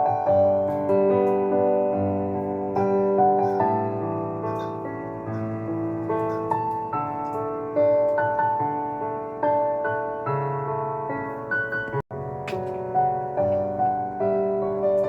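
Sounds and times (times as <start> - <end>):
soft slow piano music: 0.0 - 15.0.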